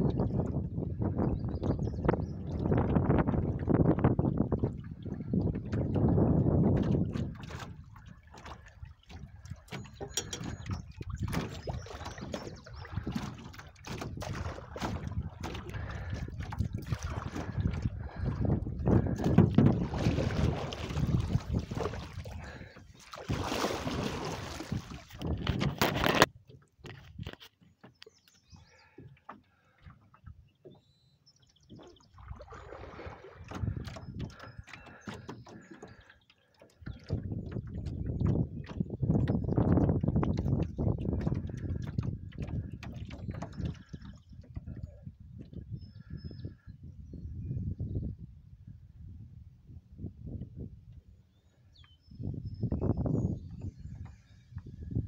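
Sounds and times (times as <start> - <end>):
water splashing against canoe hull: 0.0 - 30.9, 31.6 - 46.2.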